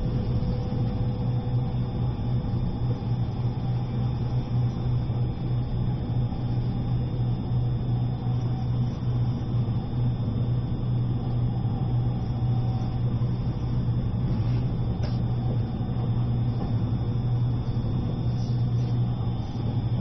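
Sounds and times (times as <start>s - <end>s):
train cabin hum: 0.0s - 20.0s.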